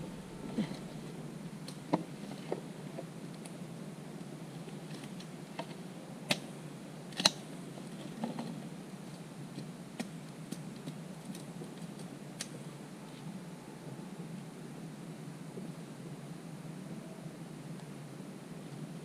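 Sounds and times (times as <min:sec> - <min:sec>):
low background hiss: 0:00.0 - 0:19.0.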